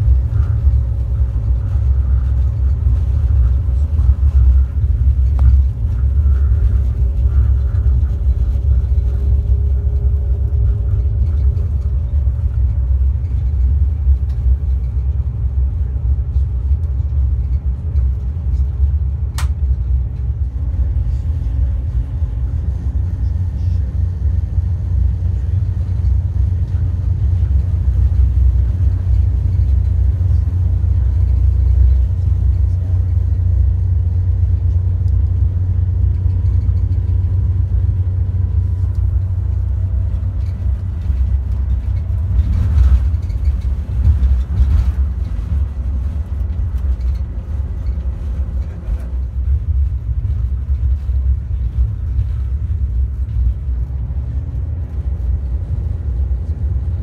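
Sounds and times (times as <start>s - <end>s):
faint engine drone: 0.0s - 57.0s
train rumbling on track: 0.0s - 57.0s.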